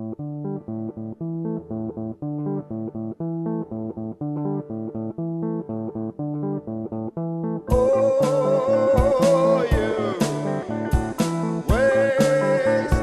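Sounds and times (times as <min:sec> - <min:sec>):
plucked guitar with bass: 0:00.0 - 0:13.0.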